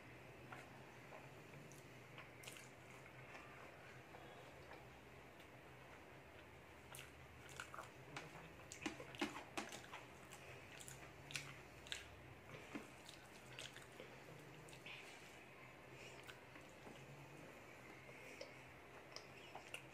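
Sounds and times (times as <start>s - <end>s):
wet chewing and lip-smacking: 0.5s - 3.8s, 4.6s - 15.4s, 16.1s - 17.1s, 17.8s - 19.9s.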